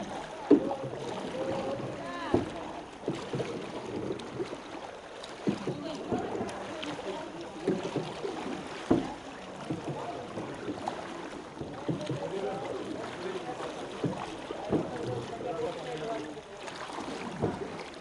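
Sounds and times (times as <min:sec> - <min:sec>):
floodwater sloshing and splashing: 0:00.0 - 0:18.0.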